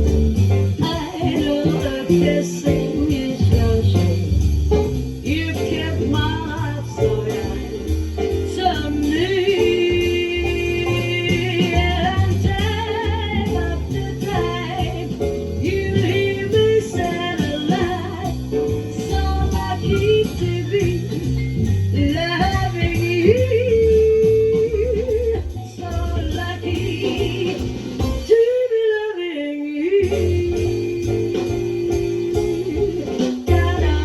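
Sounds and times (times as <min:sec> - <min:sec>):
jazz ballad through loudspeaker: 0:00.0 - 0:34.0.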